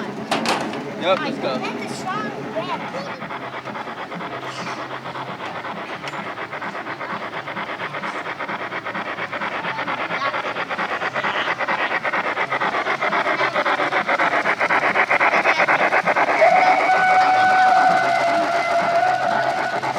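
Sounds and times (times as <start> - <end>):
model train wheels clattering: 0.0 - 19.9.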